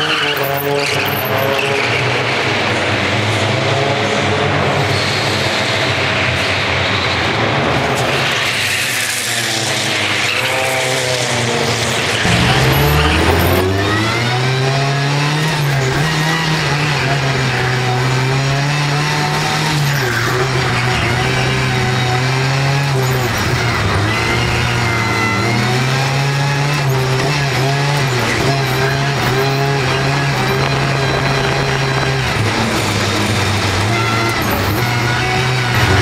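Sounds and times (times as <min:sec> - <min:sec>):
race car engine running hard: 0:00.0 - 0:36.0.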